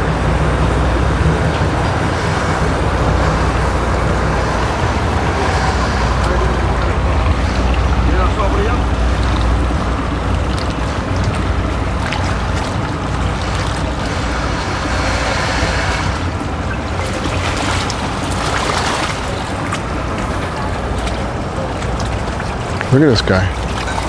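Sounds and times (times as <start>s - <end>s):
boat motor idling: 0.0s - 24.0s
wind rumble on microphone: 0.0s - 24.0s.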